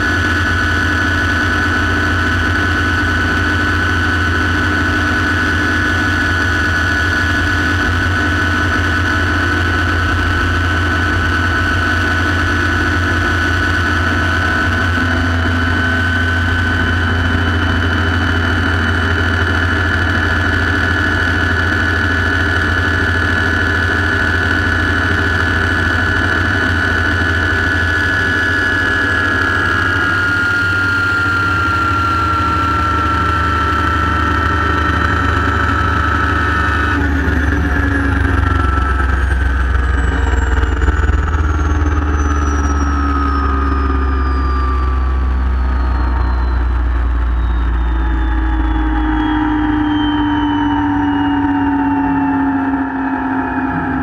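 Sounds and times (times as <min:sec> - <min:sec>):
helicopter engine and rotor drone: 0:00.0 - 0:54.0
helicopter turbine whine: 0:00.0 - 0:54.0.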